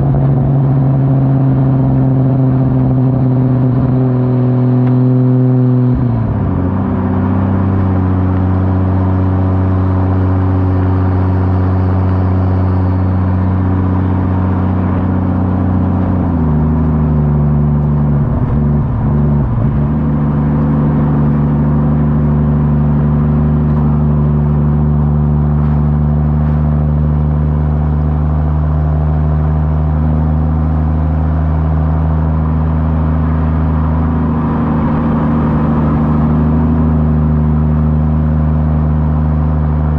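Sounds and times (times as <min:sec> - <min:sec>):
car exhaust deep drone: 0:00.0 - 0:39.9.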